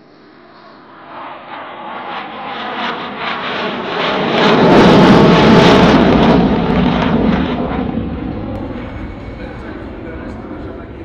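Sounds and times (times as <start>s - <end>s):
jet afterburner roar with crackle: 1.0s - 11.0s.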